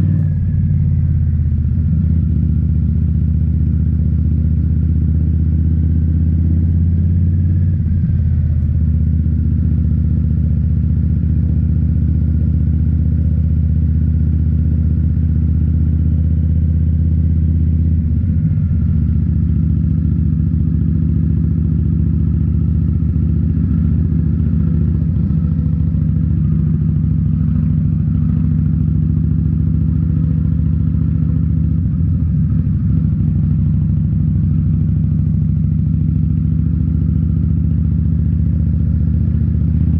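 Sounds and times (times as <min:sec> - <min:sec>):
motorcycle exhaust note: 0:00.0 - 0:05.8, 0:06.5 - 0:39.9.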